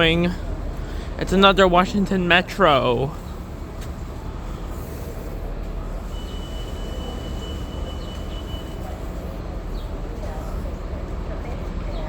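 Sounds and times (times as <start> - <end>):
low rumble of rail and traffic: 0.0 - 12.0.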